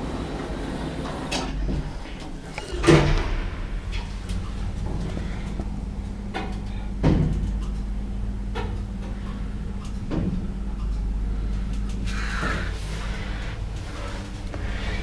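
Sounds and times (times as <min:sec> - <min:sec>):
lift humming: 0:00.0 - 0:15.0.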